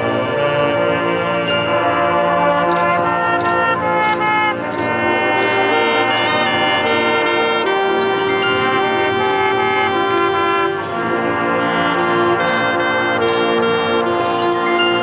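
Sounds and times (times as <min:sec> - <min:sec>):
brass chords: 0:00.0 - 0:15.0.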